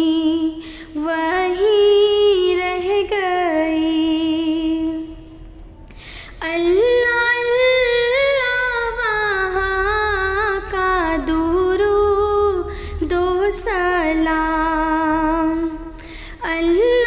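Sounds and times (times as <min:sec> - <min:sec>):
woman singing unaccompanied: 0:00.0 - 0:05.2, 0:06.4 - 0:15.8, 0:16.4 - 0:17.0.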